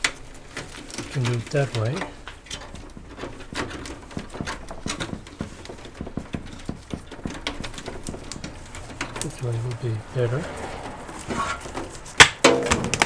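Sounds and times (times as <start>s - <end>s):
cables clicking and rustling on case: 0.0s - 13.0s.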